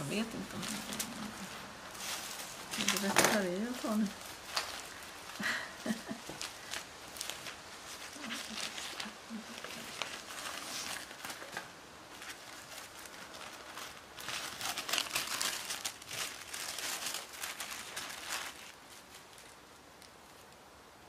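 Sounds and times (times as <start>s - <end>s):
paper and plastic rustling: 0.0s - 20.5s.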